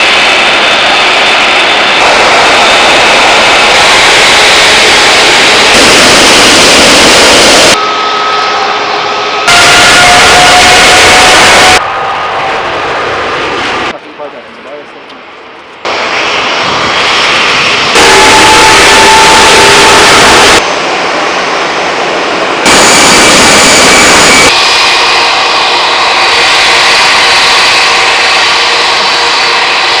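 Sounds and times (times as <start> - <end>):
jet engines roaring: 0.0 - 30.0
high whine: 2.0 - 14.0, 15.8 - 30.0.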